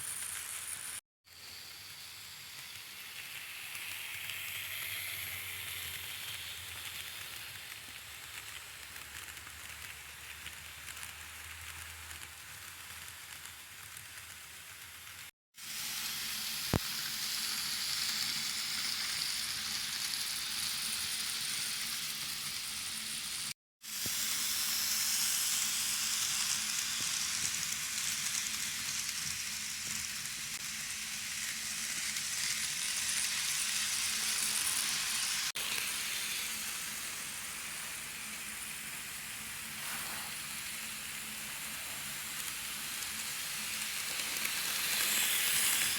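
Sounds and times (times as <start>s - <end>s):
model train wheels on rail: 0.0s - 45.9s.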